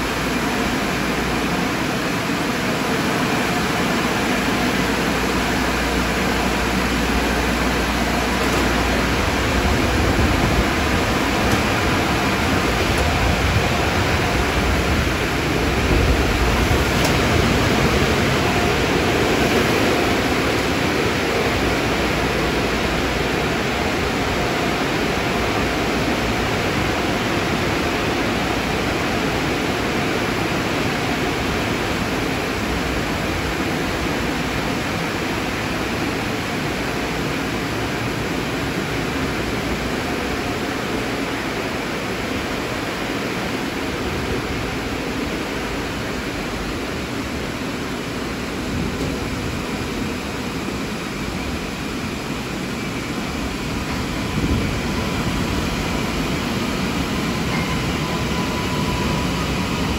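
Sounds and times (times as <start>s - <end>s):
car wash machinery rushing: 0.0s - 59.9s.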